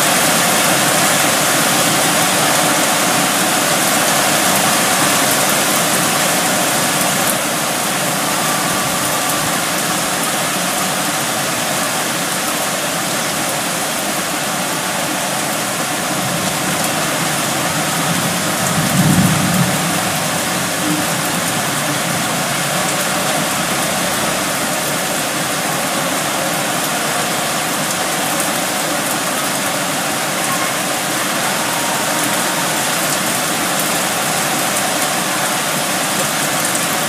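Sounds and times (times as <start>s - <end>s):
heavy wind-driven rain pouring: 0.0s - 37.0s.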